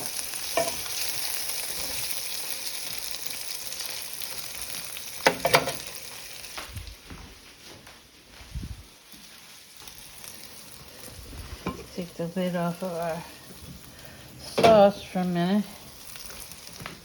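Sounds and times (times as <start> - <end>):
meatballs sizzling in a pan: 0.0 - 7.2, 8.3 - 17.0.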